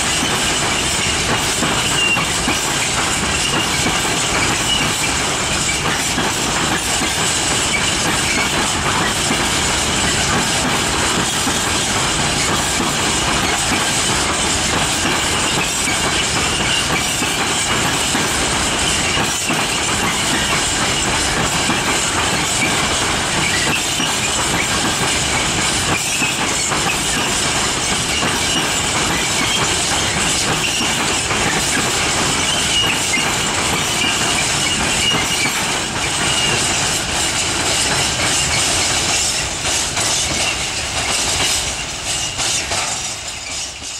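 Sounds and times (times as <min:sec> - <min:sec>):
wheels clicking over rail joints: 0:00.0 - 0:43.9.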